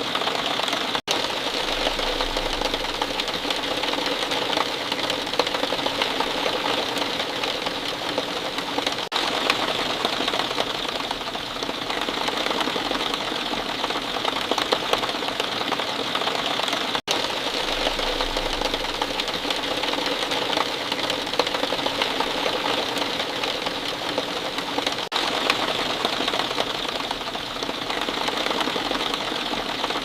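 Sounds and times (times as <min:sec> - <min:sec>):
rain patter: 0:00.0 - 0:30.0.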